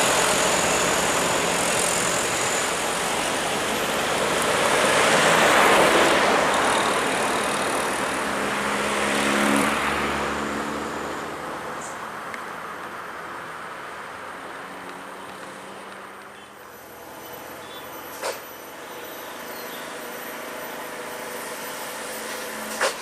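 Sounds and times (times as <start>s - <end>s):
heavy trucks passing: 0.0s - 23.0s.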